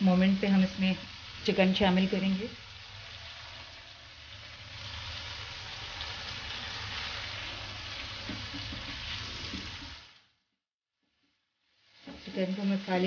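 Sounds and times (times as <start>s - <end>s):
chicken sizzling in a frying pan: 0.0s - 10.5s, 11.1s - 13.0s.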